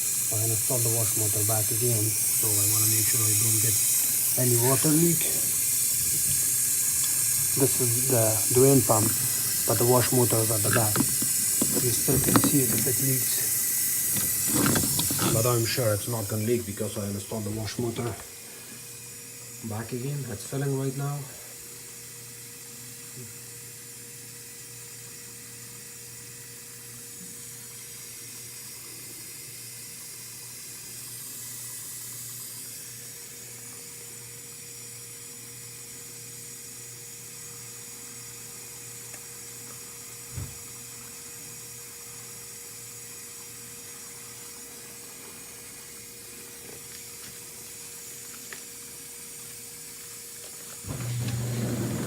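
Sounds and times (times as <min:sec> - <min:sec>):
water hissing into dishwasher: 0:00.0 - 0:22.1, 0:26.3 - 0:52.0.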